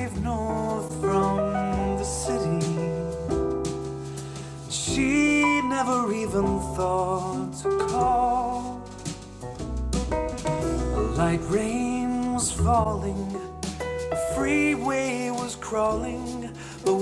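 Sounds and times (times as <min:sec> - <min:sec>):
sustained deep bass: 0:00.0 - 0:16.6.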